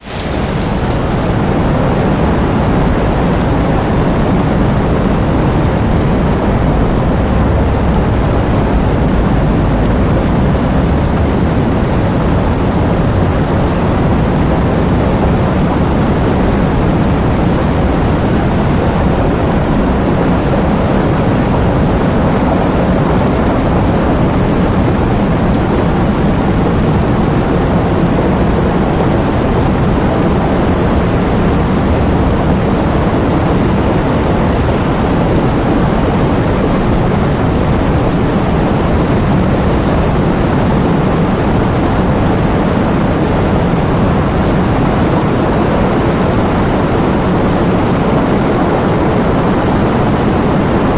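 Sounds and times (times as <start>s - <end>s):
heavy rain with wind: 0.0s - 50.9s.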